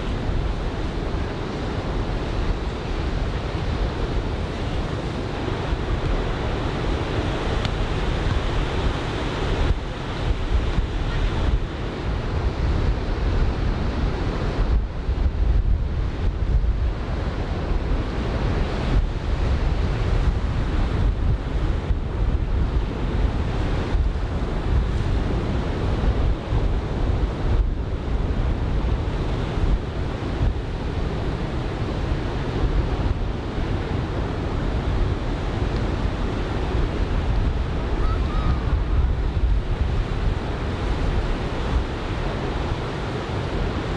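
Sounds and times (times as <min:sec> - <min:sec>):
ocean surf breaking on beach: 0:00.0 - 0:43.9
wind buffeting microphone: 0:00.0 - 0:43.9.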